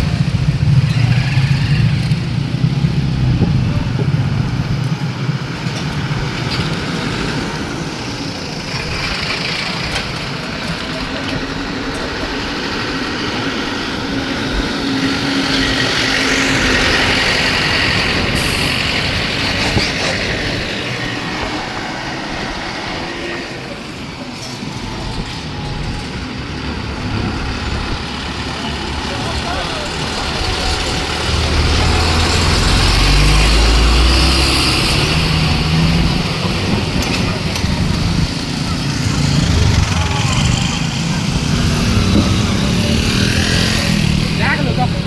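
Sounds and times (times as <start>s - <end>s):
vehicle engines in traffic: 0.0s - 45.0s.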